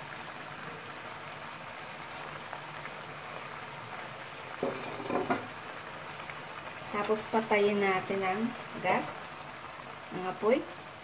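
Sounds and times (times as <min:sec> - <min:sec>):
stir-fry sizzling in a wok: 0:00.0 - 0:11.0.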